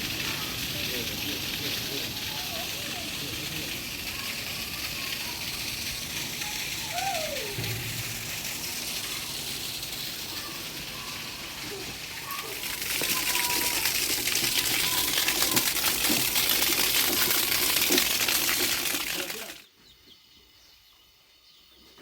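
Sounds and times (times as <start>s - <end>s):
heavy rain: 0.0s - 19.5s.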